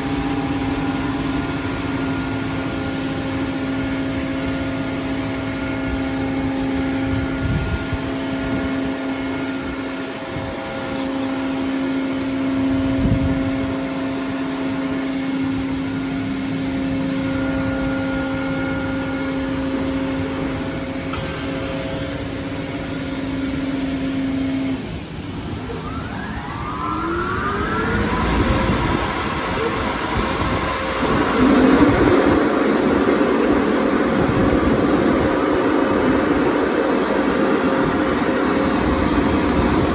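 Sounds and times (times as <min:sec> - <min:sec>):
car wash motors humming: 0:00.0 - 0:39.9
dryer blower whine and air rush: 0:00.0 - 0:39.9.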